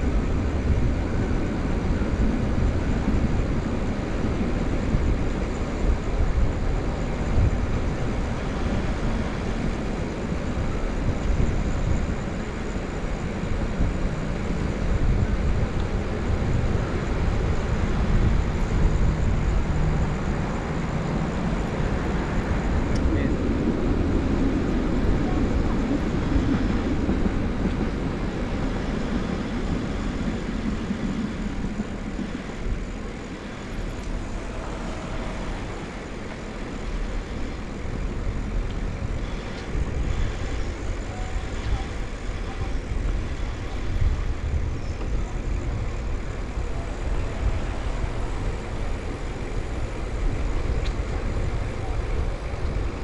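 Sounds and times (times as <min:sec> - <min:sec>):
bicycle rolling noise: 0:00.0 - 0:53.0
wind rumble while cycling: 0:00.0 - 0:53.0.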